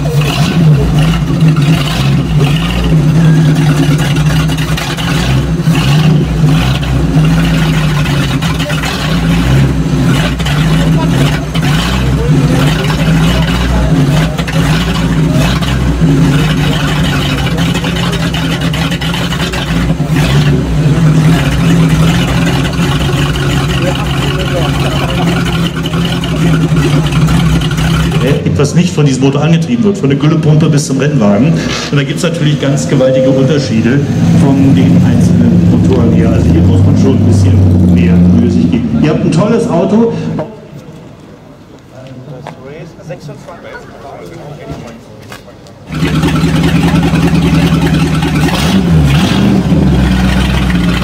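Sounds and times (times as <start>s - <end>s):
engine idling and revving: 0.0s - 41.9s, 45.0s - 51.0s.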